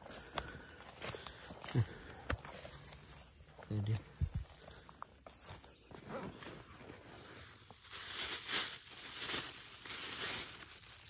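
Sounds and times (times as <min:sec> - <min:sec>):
insects shrilling: 0:00.0 - 0:11.0
rustles: 0:00.0 - 0:11.0.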